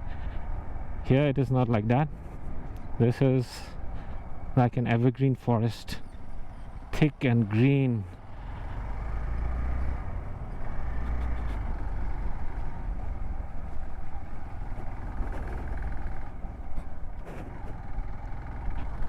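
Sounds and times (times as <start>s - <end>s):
motorcycle engine rumbling: 0.0s - 19.0s
road noise: 0.0s - 19.0s.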